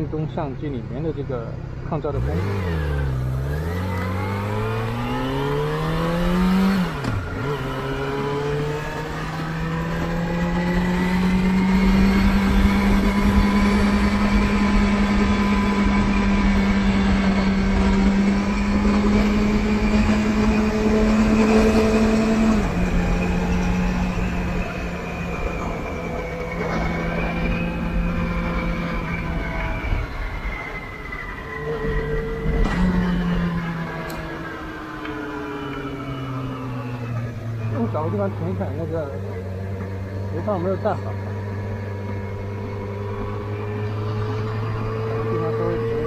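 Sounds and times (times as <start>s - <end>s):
motorcycle engine accelerating: 1.9s - 46.0s.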